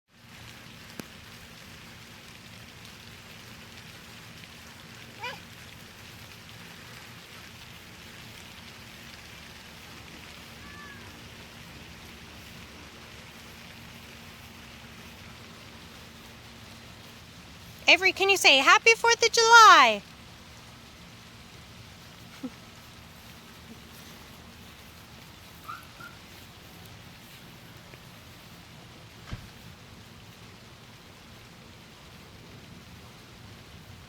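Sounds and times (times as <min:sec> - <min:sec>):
steady rain falling: 0:00.1 - 0:34.0.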